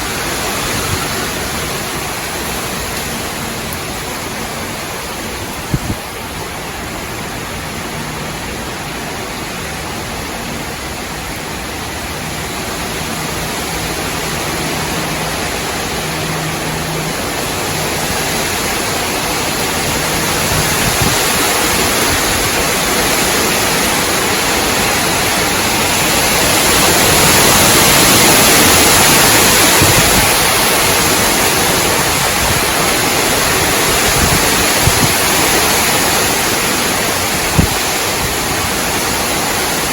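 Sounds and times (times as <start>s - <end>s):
gusty wind through trees: 0.0s - 39.9s.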